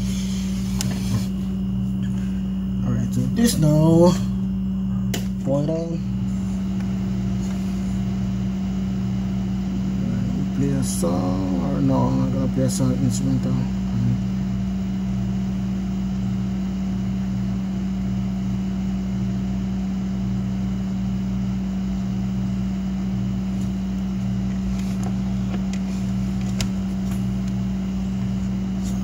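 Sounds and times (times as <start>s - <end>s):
steady low tone from subwoofer: 0.0s - 29.0s.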